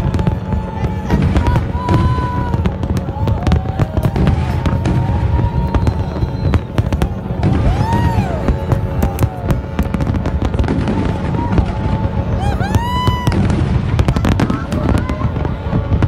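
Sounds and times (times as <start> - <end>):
firework whistles: 0.0 - 16.0.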